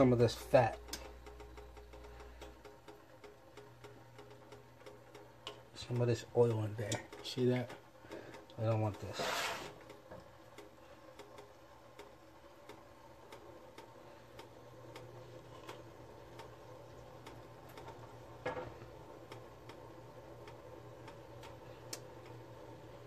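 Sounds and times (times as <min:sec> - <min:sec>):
faint regular ticking: 0:00.0 - 0:09.1, 0:09.8 - 0:23.0
steady low hum: 0:00.0 - 0:23.0.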